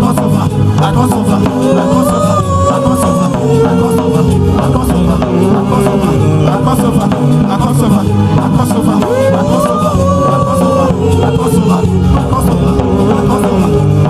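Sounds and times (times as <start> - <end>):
live praise music: 0.0 - 14.0
steady drum beat: 0.0 - 14.0.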